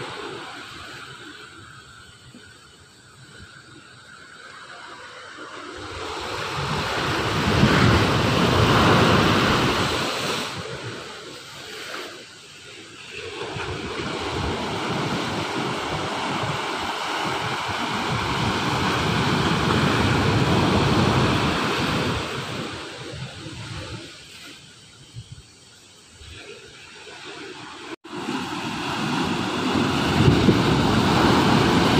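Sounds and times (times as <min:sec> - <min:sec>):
ocean surf breaking on beach: 0:00.0 - 0:31.9.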